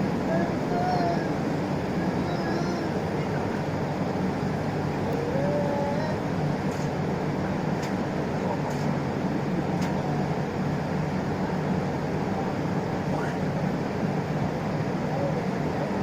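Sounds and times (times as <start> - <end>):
diesel engine drone: 0.0 - 16.0
road and tyre noise: 0.0 - 16.0.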